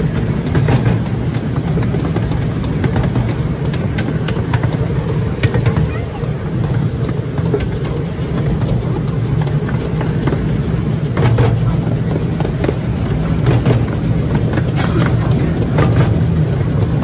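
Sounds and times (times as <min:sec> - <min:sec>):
train wheels rumbling: 0:00.0 - 0:17.0
wheel clicks and clacks: 0:00.0 - 0:17.0.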